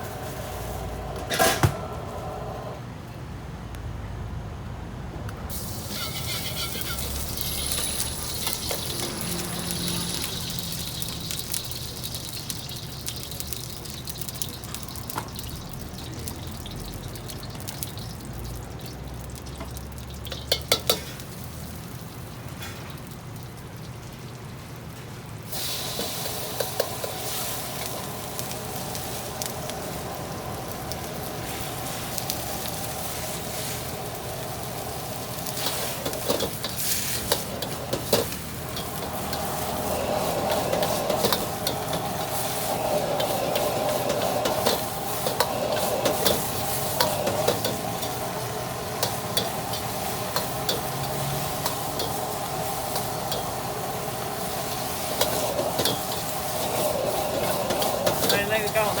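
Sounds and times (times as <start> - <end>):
rice sizzling in a wok: 0.0 - 1.2, 5.5 - 59.0.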